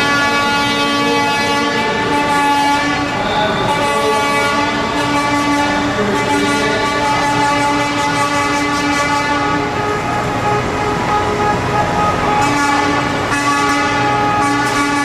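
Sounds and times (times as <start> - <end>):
truck air horns blasting: 0.0 - 15.0.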